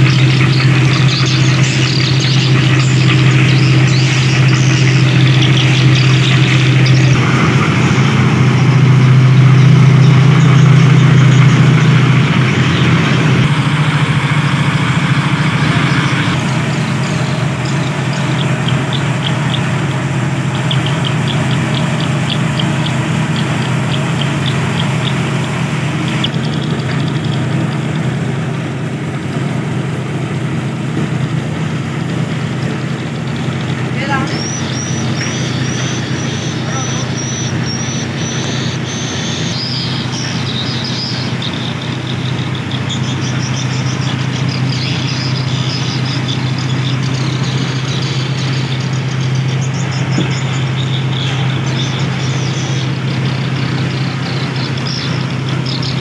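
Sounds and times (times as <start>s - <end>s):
concrete mixer running: 0.0s - 56.0s.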